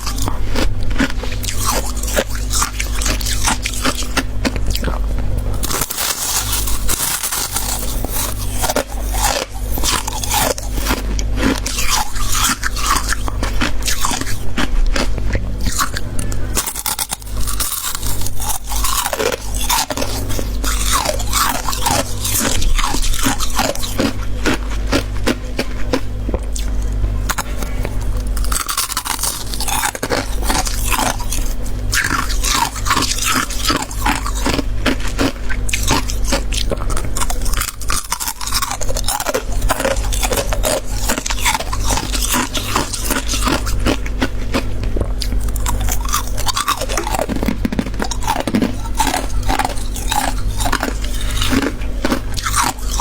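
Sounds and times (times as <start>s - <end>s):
chewing: 0.0s - 53.0s
frost crunching and scraping: 0.0s - 53.0s
steady low hum: 0.0s - 53.0s.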